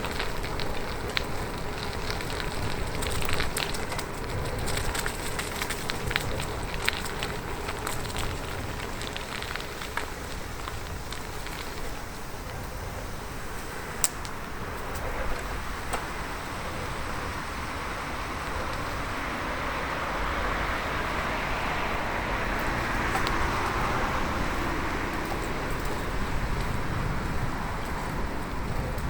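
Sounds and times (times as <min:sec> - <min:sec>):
bicycle rolling on road: 0:00.0 - 0:29.0
car passing: 0:00.0 - 0:29.0.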